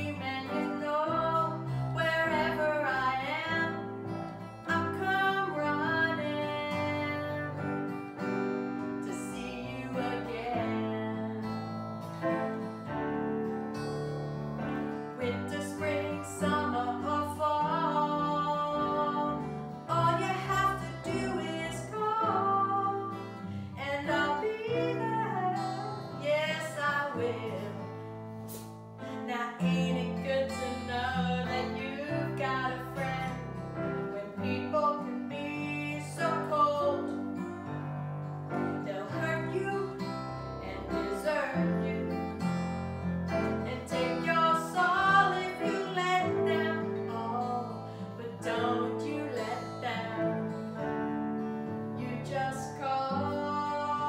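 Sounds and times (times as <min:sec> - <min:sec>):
woman singing: 0:00.0 - 0:12.6, 0:14.9 - 0:37.4, 0:38.5 - 0:51.2, 0:51.8 - 0:54.0
strummed acoustic guitar: 0:00.0 - 0:54.0.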